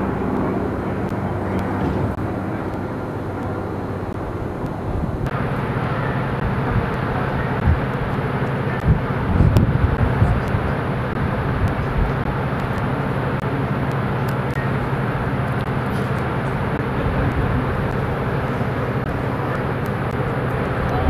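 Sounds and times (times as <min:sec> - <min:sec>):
rushing water noise: 0:00.0 - 0:21.0
ship machinery hum: 0:00.0 - 0:21.0.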